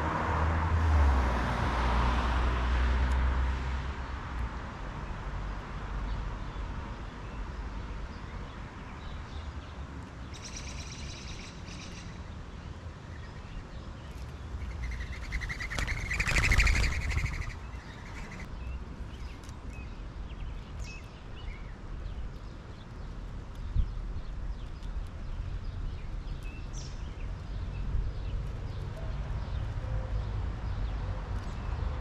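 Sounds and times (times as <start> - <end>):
songbirds calling: 5.5 - 32.0.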